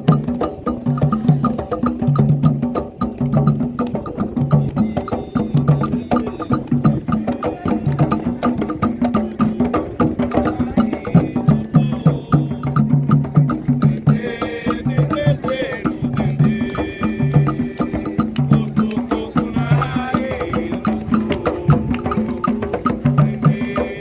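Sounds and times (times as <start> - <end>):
hand drums beating: 0.0 - 24.0.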